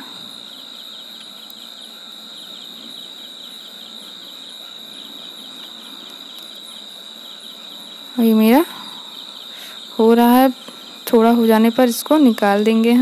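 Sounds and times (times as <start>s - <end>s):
cricket trill: 0.0s - 13.0s.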